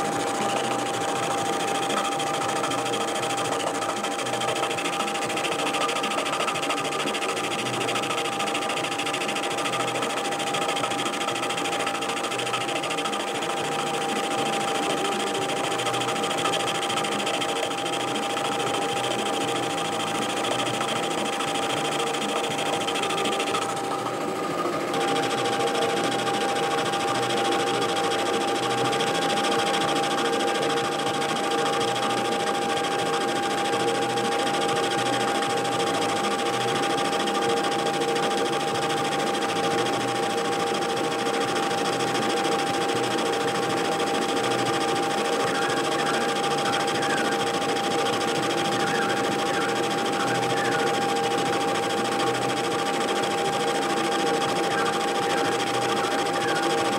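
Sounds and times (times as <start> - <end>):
metal lathe whining: 0.0 - 56.9
turning tool cutting metal: 0.0 - 56.9.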